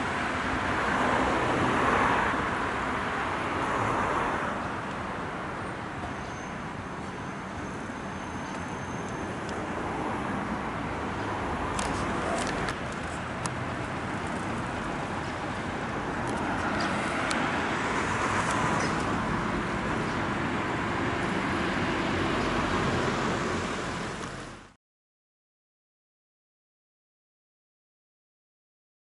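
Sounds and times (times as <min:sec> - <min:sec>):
road traffic: 0:00.0 - 0:24.8.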